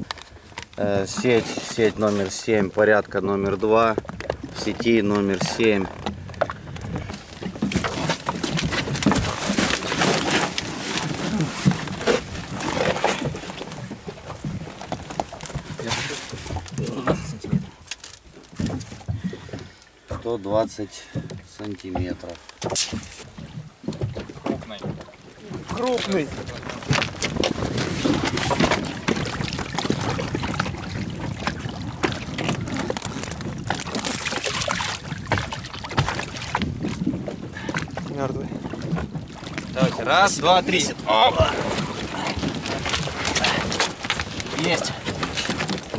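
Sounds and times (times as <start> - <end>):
net and rope rustling and scraping: 0.0 - 19.2, 21.6 - 37.1, 38.8 - 45.9
water splashing and dripping: 3.8 - 45.9.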